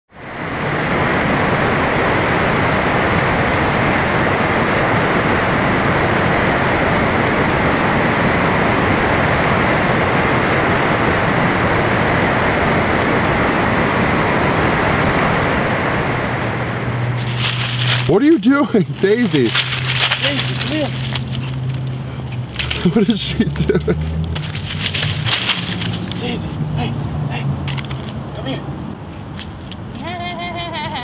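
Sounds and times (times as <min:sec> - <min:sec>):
loud steady rushing noise: 0:00.1 - 0:31.0.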